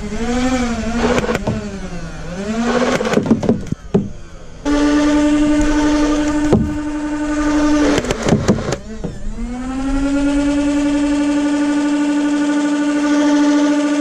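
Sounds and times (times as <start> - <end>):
toy blaster flywheels whining: 0.0 - 14.0.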